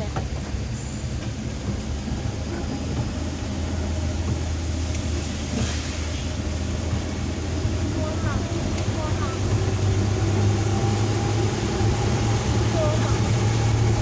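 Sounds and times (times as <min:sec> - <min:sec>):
heavy rain on vehicle roof: 0:00.0 - 0:14.0
vehicle engine and road rumble: 0:00.0 - 0:14.0.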